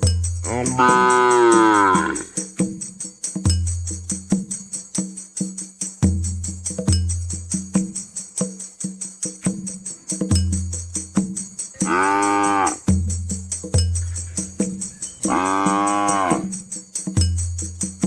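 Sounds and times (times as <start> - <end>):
light percussion: 0.0 - 18.0
tambourine jingles: 0.0 - 18.0.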